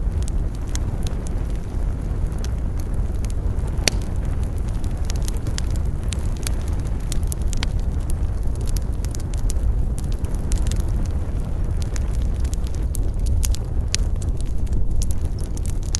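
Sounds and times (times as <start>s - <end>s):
campfire crackling and popping: 0.0s - 15.9s
low rumble: 0.0s - 15.9s.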